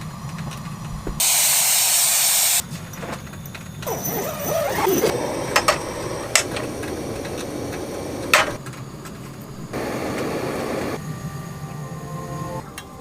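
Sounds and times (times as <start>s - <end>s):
steady hiss: 0.0s - 12.6s.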